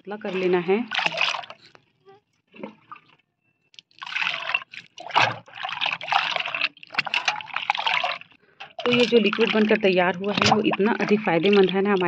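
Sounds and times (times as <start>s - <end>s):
water splashing into a bucket: 0.0s - 1.9s, 2.5s - 12.0s.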